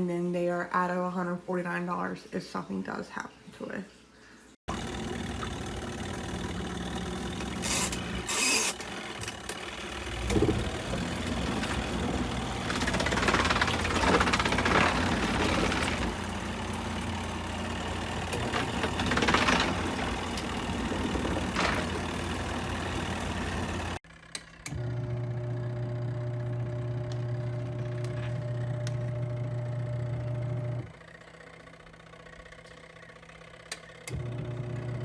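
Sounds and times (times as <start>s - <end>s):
washing machine motor hum: 4.7s - 35.0s.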